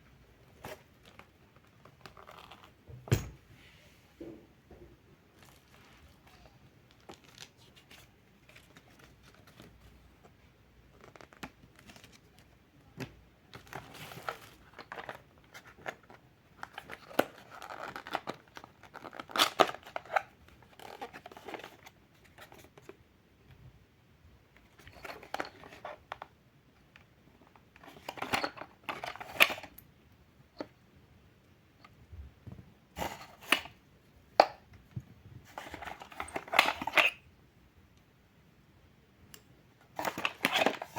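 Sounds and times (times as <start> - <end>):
rustling and crinkling: 0.0 - 23.6, 24.5 - 29.8, 31.8 - 37.2, 39.8 - 40.9.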